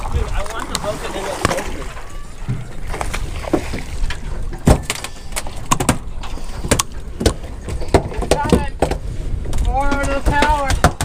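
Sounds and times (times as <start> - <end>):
water against boat: 0.0 - 11.0
wind: 0.0 - 11.0.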